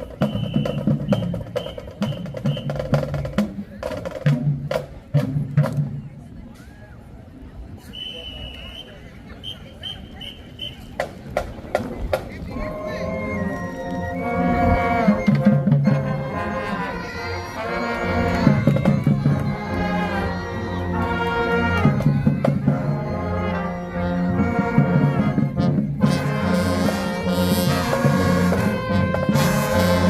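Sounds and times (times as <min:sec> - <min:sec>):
marching band brass: 0:00.0 - 0:06.0, 0:07.9 - 0:30.0.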